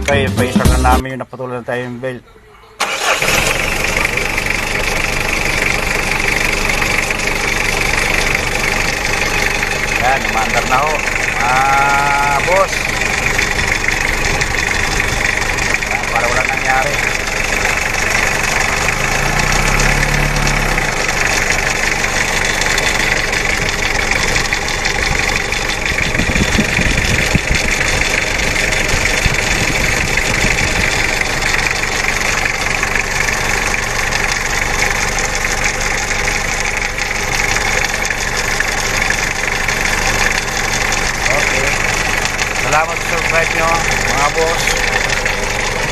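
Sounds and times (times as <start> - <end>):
diesel engine idling: 1.7 - 45.9.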